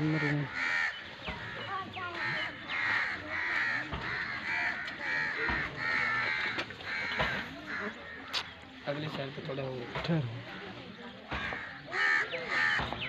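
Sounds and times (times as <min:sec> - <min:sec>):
harsh cawing bird calls: 0:00.0 - 0:13.0.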